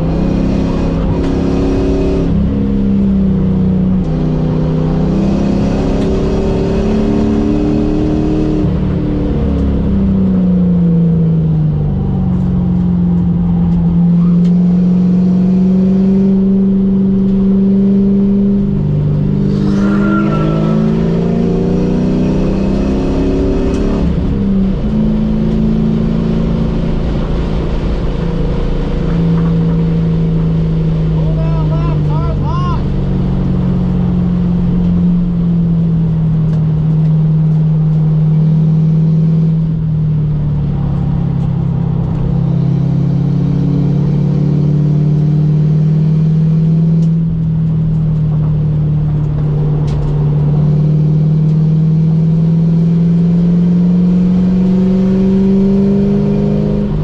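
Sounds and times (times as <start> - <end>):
car engine from inside cabin: 0.0 - 57.0
road and wind noise: 0.0 - 57.0.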